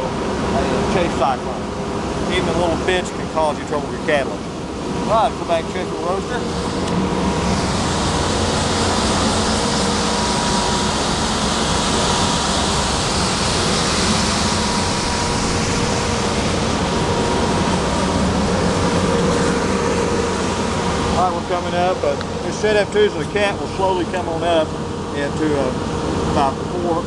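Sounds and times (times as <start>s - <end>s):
coffee roaster machinery rushing: 0.0s - 27.0s.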